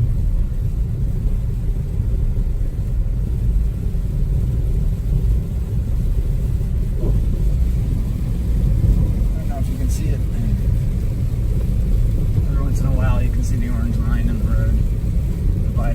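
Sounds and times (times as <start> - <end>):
road and tyre rumble in car: 0.0 - 15.9.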